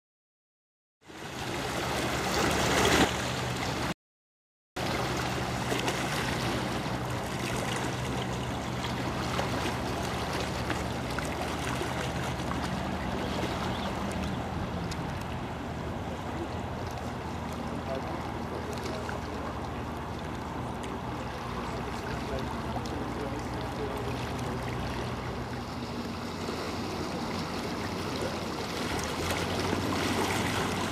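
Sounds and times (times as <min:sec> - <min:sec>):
rushing air and river water: 0:01.0 - 0:04.0, 0:04.8 - 0:30.9
ferry engine humming: 0:04.8 - 0:30.9.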